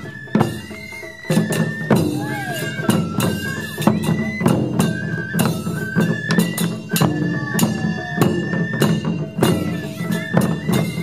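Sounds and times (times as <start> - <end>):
bamboo flute melody: 0.0 - 11.0
drums in driving rhythm: 0.0 - 11.0.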